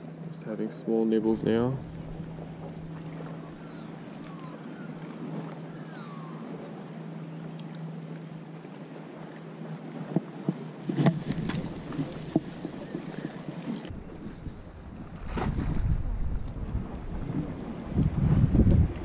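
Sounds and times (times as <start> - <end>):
steady low hum: 0.0 - 9.9, 10.6 - 19.0
wind: 0.0 - 19.0.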